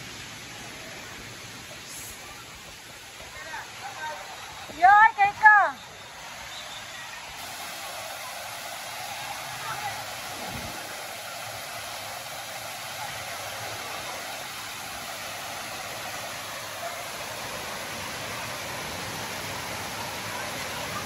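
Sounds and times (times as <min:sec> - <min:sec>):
water pouring over stone cascades: 0:00.0 - 0:21.0.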